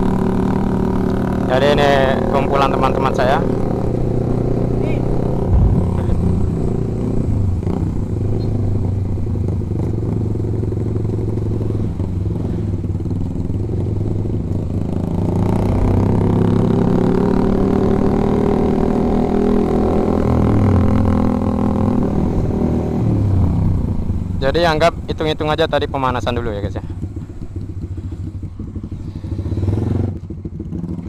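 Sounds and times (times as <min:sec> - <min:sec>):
motorcycle engine cruising: 0:00.0 - 0:31.0.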